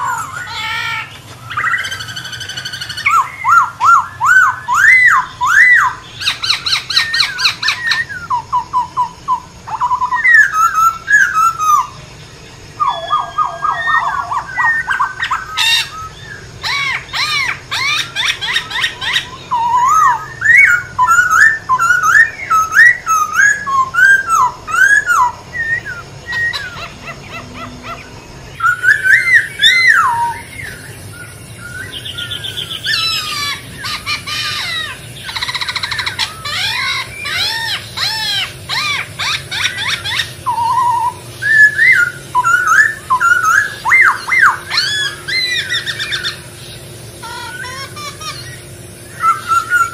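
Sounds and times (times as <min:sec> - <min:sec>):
bird singing whistled phrases: 0:00.0 - 0:12.1, 0:12.7 - 0:46.5, 0:47.2 - 0:49.9.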